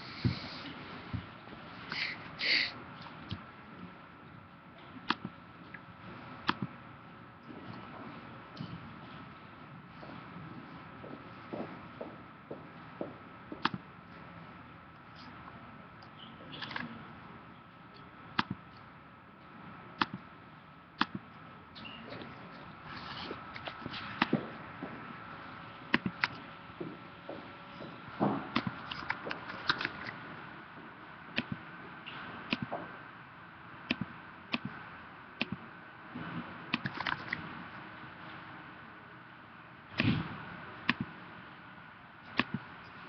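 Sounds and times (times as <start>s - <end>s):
low room noise: 0.0s - 43.0s.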